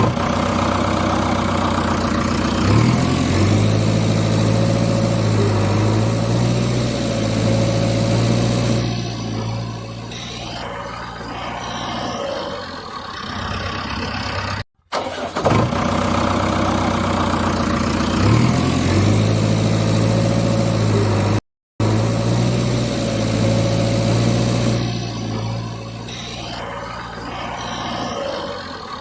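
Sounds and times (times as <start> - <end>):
engine starting and revving: 0.0 - 29.0
motor vehicle engine running: 0.0 - 29.0.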